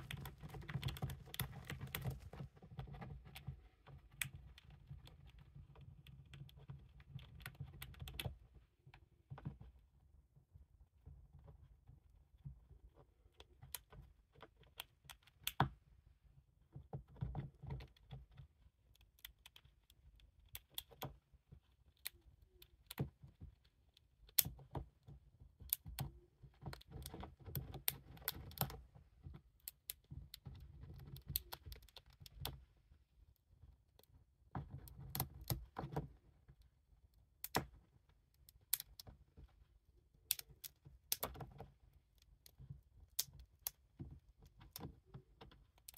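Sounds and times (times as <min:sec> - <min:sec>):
hamster gnawing peanut shell: 0:00.0 - 0:45.9.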